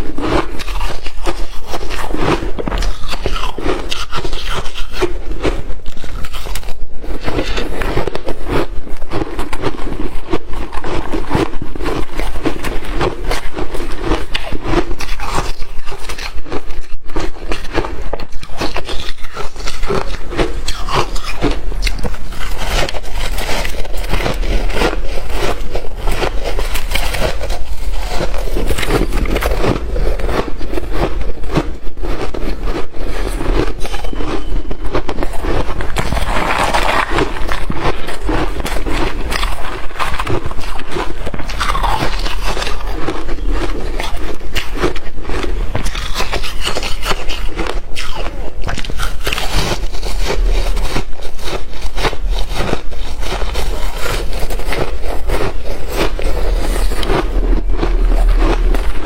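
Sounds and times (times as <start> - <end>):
chewing ice crunches: 0.0 - 59.0.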